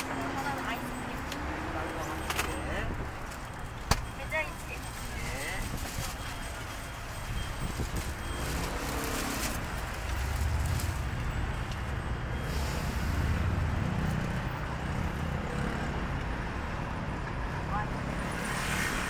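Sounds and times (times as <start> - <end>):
motor vehicle rumble: 0.0 - 19.0
steady traffic hum: 0.0 - 19.0.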